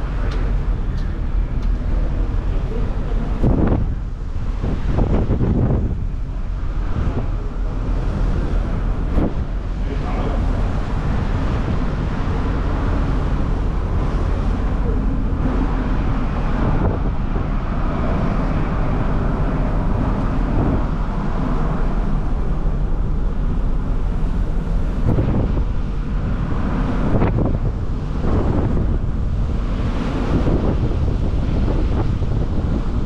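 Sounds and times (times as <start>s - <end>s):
ferry low rumble: 0.0s - 33.0s
wind buffeting microphone: 0.0s - 33.0s.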